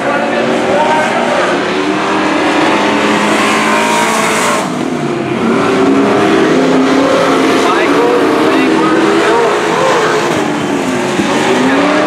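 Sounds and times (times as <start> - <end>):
racing truck engines passing: 0.0 - 12.0.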